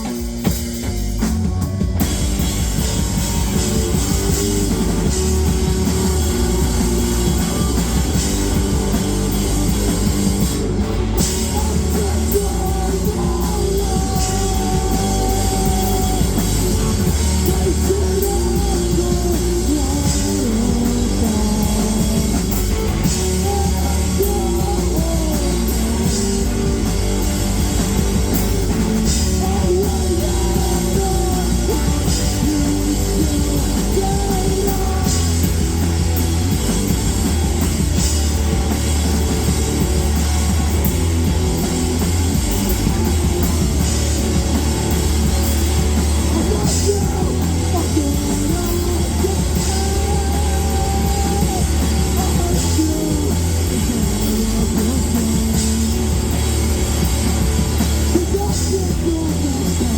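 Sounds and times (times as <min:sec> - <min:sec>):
drum kit: 0:00.0 - 0:59.9
electric guitar: 0:00.0 - 0:59.9
heavy bass: 0:00.0 - 0:59.9.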